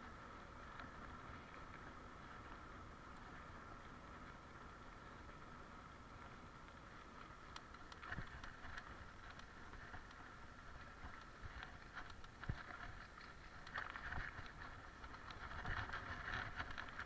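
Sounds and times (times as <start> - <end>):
bike rattling over rough ground: 0.0 - 17.0.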